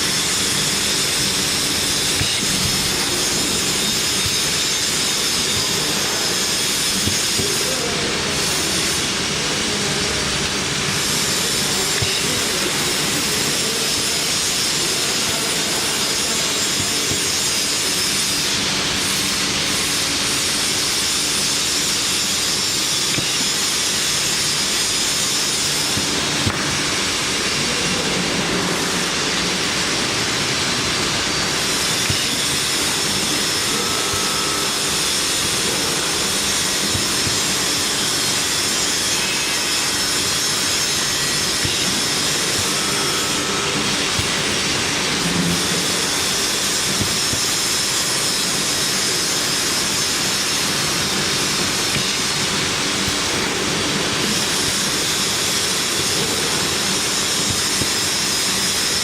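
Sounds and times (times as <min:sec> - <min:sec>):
factory machinery hiss and hum: 0:00.0 - 0:59.0.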